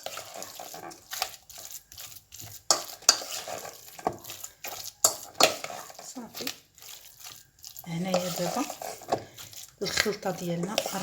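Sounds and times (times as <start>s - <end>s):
spoon scraping paste in bowl: 0.0s - 11.0s.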